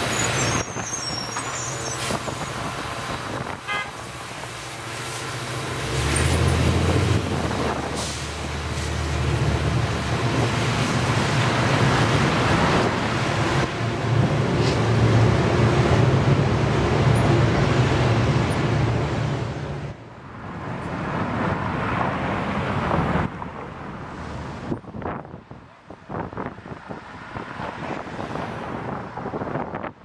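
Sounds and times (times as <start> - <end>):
train rumbling on rails: 0.0 - 25.2
diesel locomotive engine drone: 0.0 - 27.2
distant traffic: 0.0 - 30.0.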